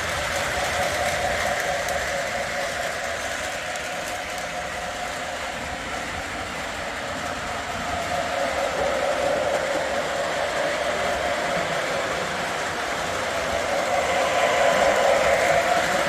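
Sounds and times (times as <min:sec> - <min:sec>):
model train motors whirring on rail: 0:00.0 - 0:16.0.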